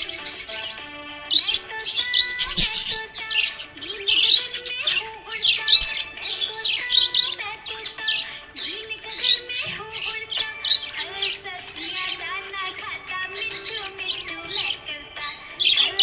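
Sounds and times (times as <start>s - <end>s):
background music: 0.0s - 16.0s
budgerigar chirping and warbling: 0.0s - 16.0s.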